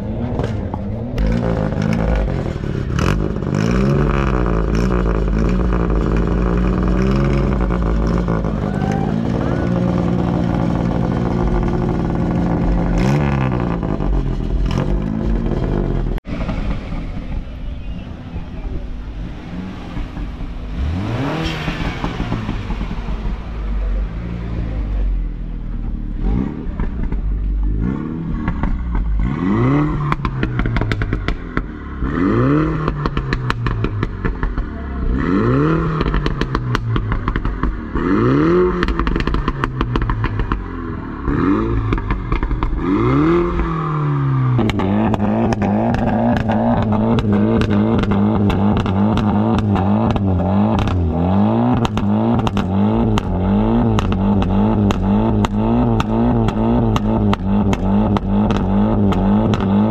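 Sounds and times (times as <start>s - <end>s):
car engine revving: 0.0s - 59.9s
exhaust crackles: 0.0s - 59.9s.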